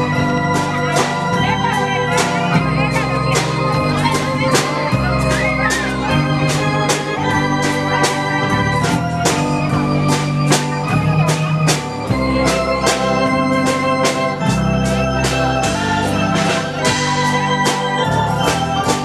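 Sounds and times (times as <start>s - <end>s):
waltz on electronic keyboard: 0.0s - 19.0s.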